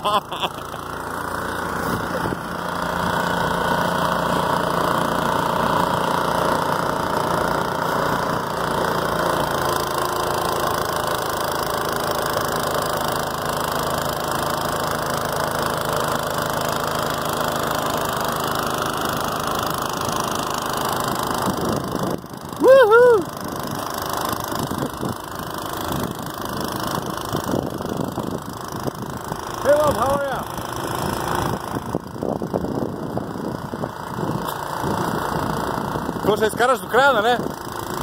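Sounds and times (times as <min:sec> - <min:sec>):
snowblower engine running: 0:00.0 - 0:38.0.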